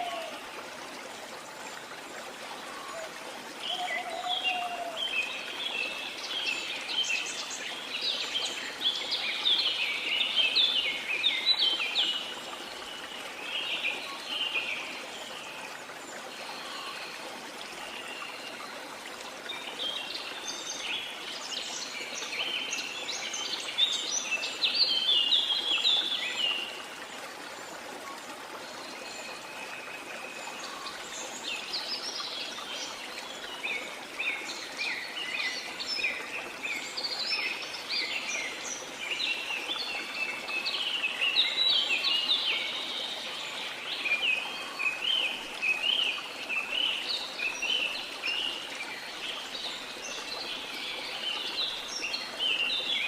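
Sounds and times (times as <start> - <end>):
rush of falling water: 0.0 - 53.0.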